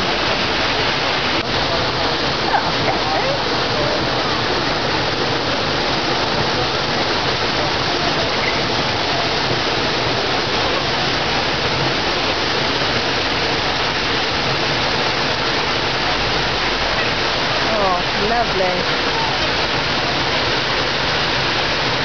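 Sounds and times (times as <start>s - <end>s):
rushing falling water: 0.0s - 22.0s.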